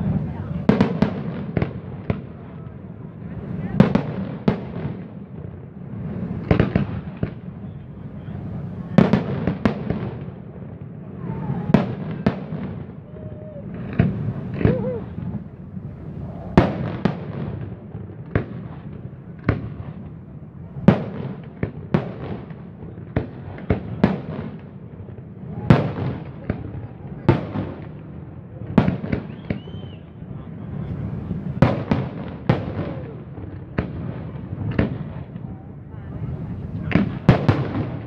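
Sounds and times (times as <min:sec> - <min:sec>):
fireworks bursting with echo: 0:00.0 - 0:38.0.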